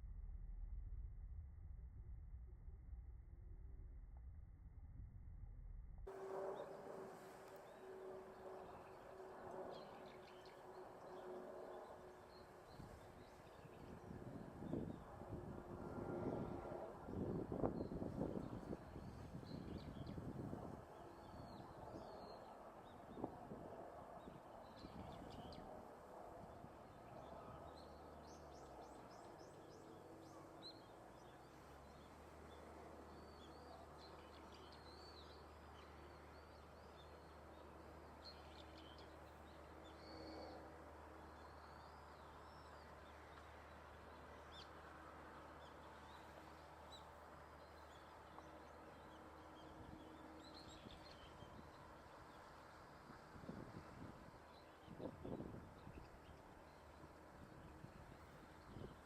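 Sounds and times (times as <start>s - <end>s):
steady low hum: 0.0s - 54.2s.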